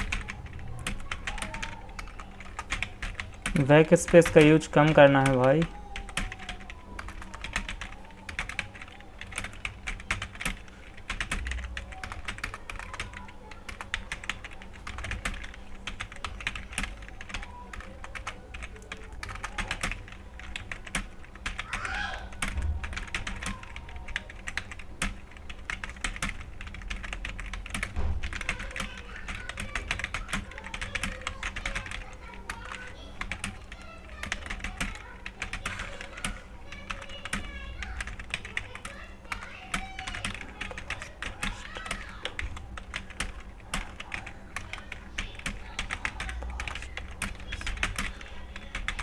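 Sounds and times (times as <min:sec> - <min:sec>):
fast keyboard typing: 0:00.0 - 0:49.0.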